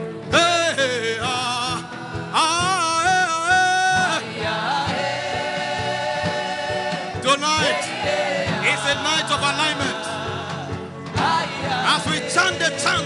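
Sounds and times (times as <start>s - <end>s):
steady drum beat: 0.0s - 13.0s
sustained keyboard chords: 0.0s - 13.0s.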